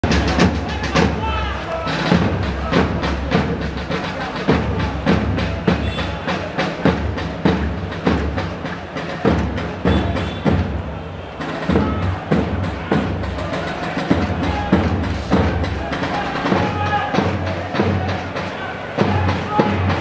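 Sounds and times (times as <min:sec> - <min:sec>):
drums beaten in steady rhythm: 0:00.0 - 0:20.0.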